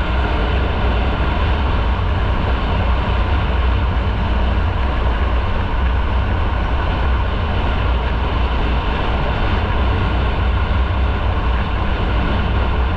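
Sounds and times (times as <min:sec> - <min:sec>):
wind noise on microphone: 0:00.0 - 0:12.9.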